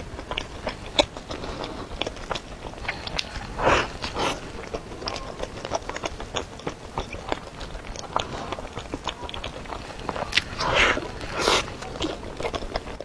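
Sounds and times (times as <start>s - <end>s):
biting into soft bun: 0.0s - 13.0s
chewing with wet mouth clicks: 0.0s - 13.0s.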